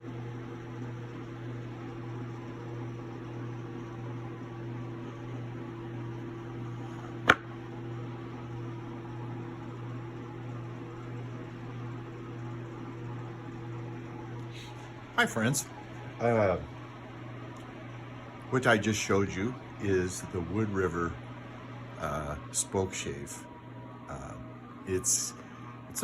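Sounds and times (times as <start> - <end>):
electrical fan hum: 0.0 - 26.0.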